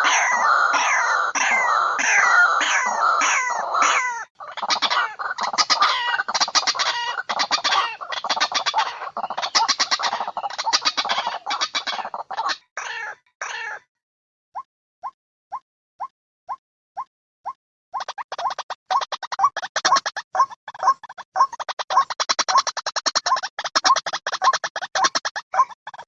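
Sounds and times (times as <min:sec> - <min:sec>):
waterhen calling: 0:00.0 - 0:13.8, 0:18.0 - 0:26.0.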